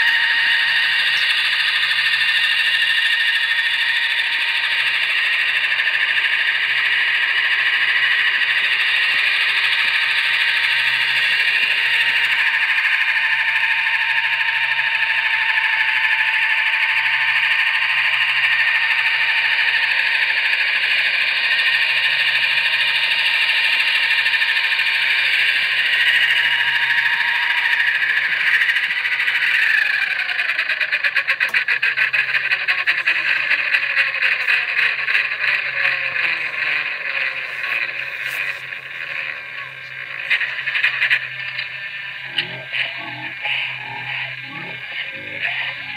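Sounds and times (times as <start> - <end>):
micro helicopter motors whining: 0.0 - 45.9.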